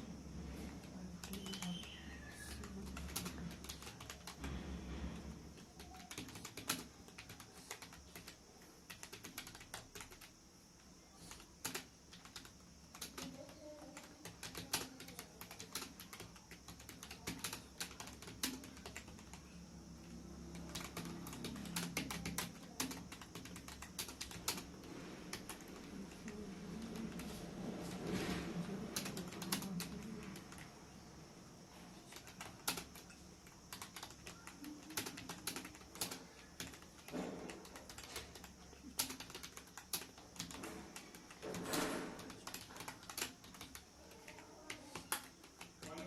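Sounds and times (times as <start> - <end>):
fast keyboard typing: 0.7 - 10.4, 11.1 - 31.0, 31.9 - 46.0.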